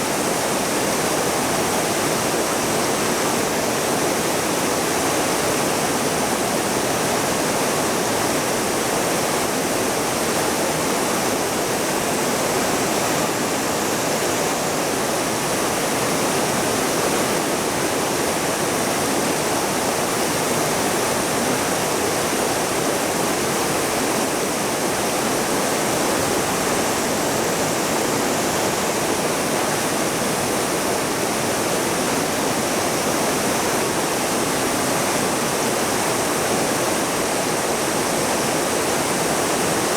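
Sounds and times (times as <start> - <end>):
waterfall and rapids roaring: 0.0 - 39.9.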